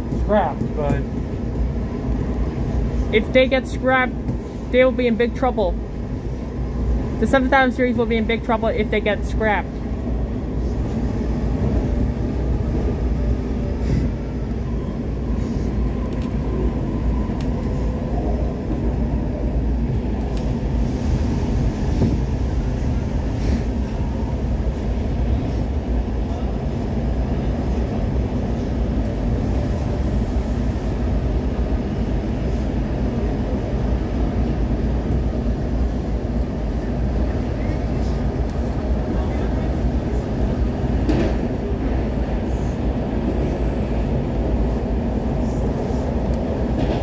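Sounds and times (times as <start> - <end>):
train running on rails: 0.0 - 47.0.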